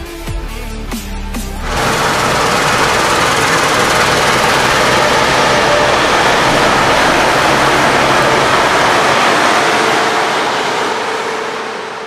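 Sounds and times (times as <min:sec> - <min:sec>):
combine harvester running: 0:01.4 - 0:12.0
low engine hum: 0:01.5 - 0:12.0.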